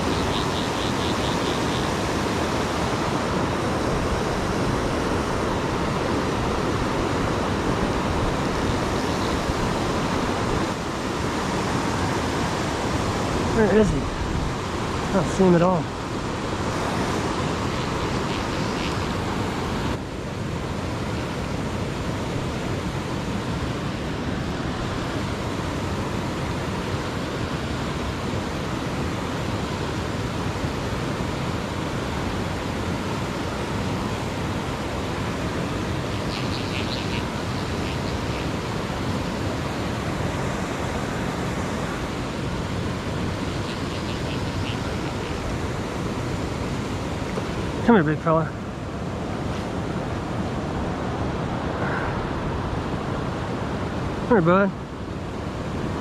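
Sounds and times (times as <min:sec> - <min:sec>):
waterfall rushing: 0:00.0 - 0:20.0, 0:20.9 - 0:56.0.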